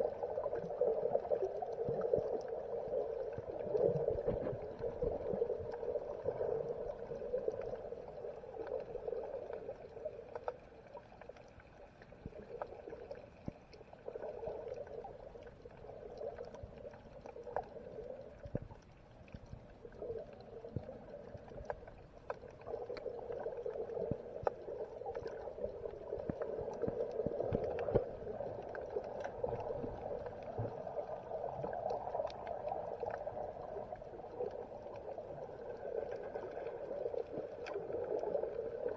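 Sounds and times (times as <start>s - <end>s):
faint clicks and ticks: 0.0s - 38.9s
muffled underwater rush: 0.0s - 38.9s.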